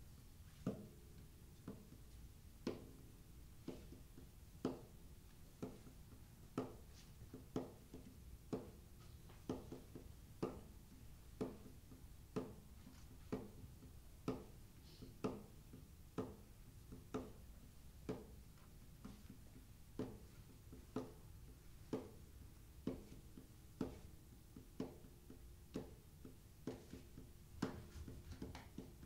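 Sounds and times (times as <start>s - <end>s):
softer taps: 0.5s - 29.0s.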